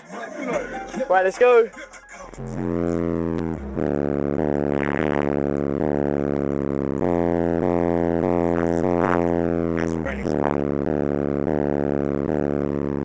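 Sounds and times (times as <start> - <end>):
bass-heavy hip-hop from subwoofer: 0.6 - 13.0.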